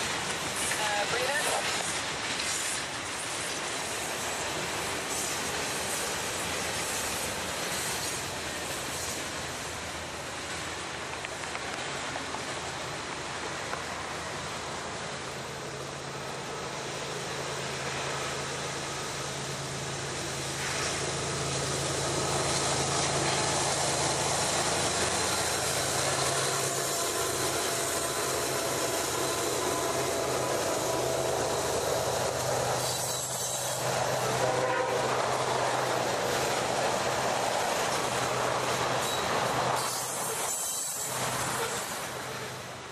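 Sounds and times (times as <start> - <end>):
diesel locomotive engines humming: 0.0 - 42.9
train wheels rumbling on rails: 0.0 - 42.9.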